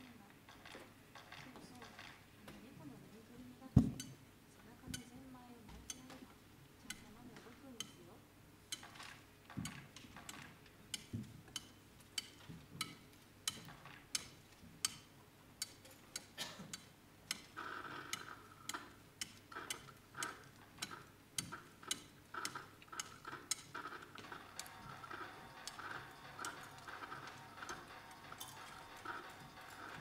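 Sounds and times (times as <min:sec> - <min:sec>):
steady ticking clicks: 0:03.8 - 0:30.0.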